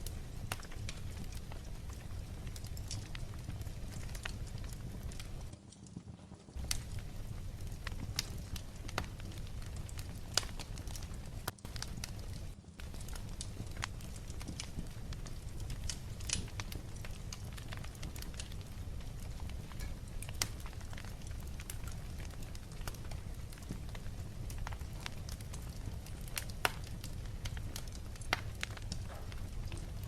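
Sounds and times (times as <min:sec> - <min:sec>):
low fire rumble: 0:00.0 - 0:05.6, 0:06.5 - 0:30.0
fire popping: 0:00.0 - 0:05.8, 0:06.5 - 0:30.0
wood fire crackling: 0:00.0 - 0:30.0.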